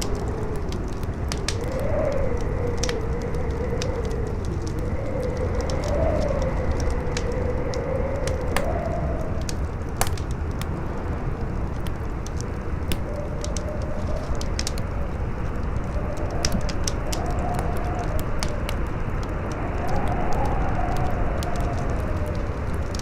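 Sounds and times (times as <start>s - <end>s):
strong wind howling: 0.0s - 23.0s
wood fire crackling: 0.0s - 23.0s.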